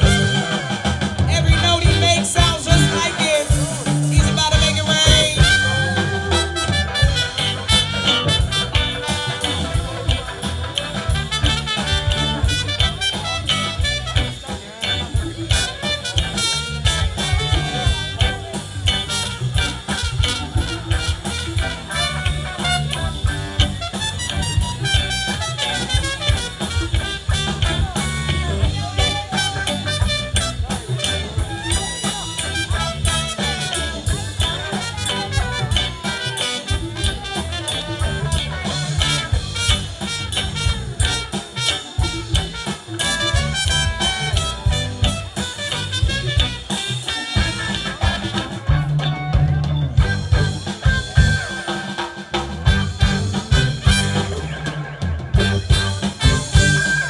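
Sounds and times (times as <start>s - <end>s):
bass guitar: 0.0s - 57.0s
drum kit: 0.0s - 57.0s
electric guitars: 0.0s - 57.0s
horns: 0.0s - 57.0s
keyboard: 0.0s - 57.0s.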